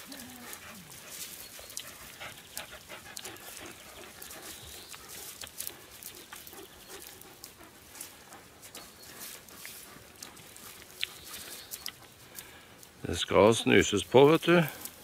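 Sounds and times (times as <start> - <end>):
dogs sniffing: 0.0 - 13.0
rustling dry grass: 0.0 - 15.0.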